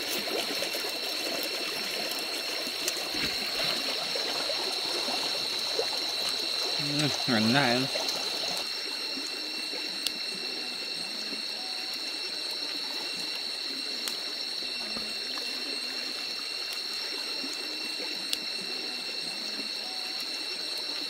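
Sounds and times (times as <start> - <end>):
water trickling: 0.0 - 21.0
high-pitched ringing tone: 3.2 - 21.0.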